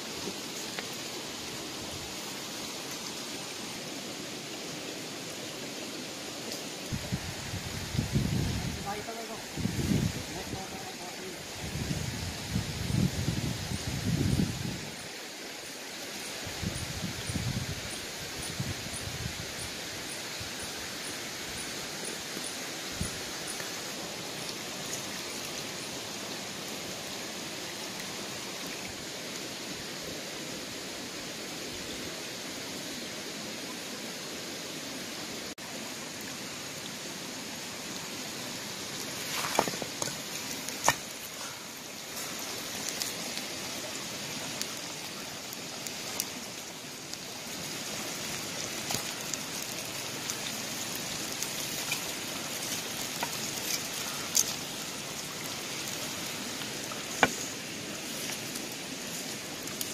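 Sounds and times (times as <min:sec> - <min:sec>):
fire crackles: 0:00.0 - 0:33.9, 0:35.6 - 0:59.9
pot simmering hiss: 0:00.0 - 0:59.9.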